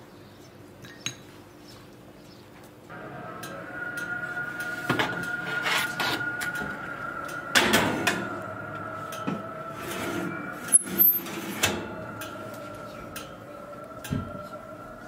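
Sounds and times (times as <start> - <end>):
metal tray scraping oven rack: 2.9 - 15.0.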